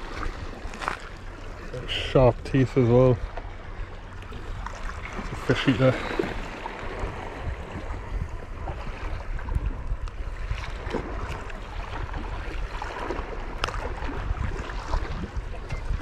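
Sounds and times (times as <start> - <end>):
sea water lapping: 0.0 - 16.0
wind rumbling on microphone: 0.0 - 16.0.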